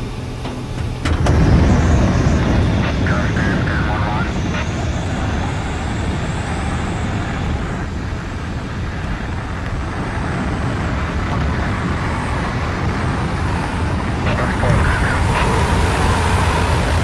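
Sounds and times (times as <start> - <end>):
plane engine noise: 0.0 - 17.0
wind buffeting on microphone: 0.6 - 17.0
wind rushing: 1.1 - 17.0.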